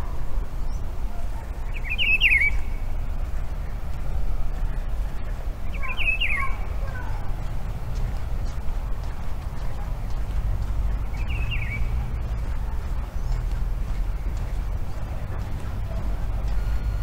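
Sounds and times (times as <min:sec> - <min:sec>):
steady low rumble: 0:00.0 - 0:17.0
bird chirping: 0:00.6 - 0:17.0.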